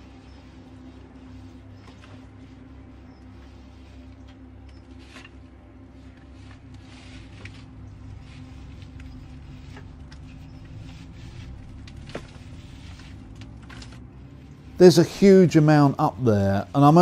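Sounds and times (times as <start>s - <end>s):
pole scraping on roof sheeting: 0.0s - 17.0s
steady low hum: 0.0s - 17.0s.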